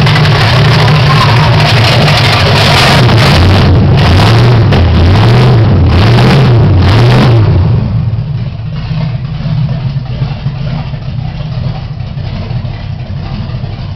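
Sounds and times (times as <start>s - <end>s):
car engine revving and idling: 0.0s - 13.9s.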